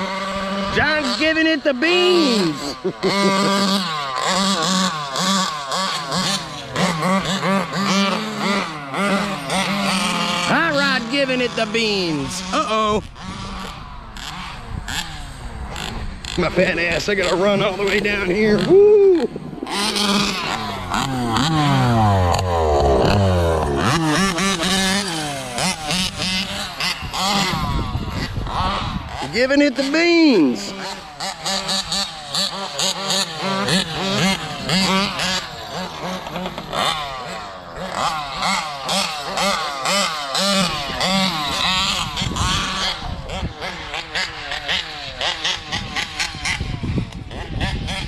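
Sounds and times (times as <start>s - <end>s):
two-stroke engines revving: 0.0s - 48.0s.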